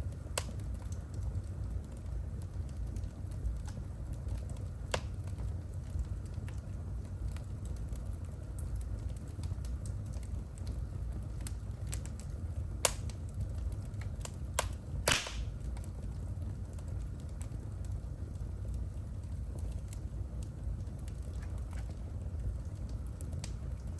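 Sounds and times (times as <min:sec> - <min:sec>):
fire crackling and popping: 0:00.0 - 0:23.9
fire flames rumbling: 0:00.0 - 0:23.9.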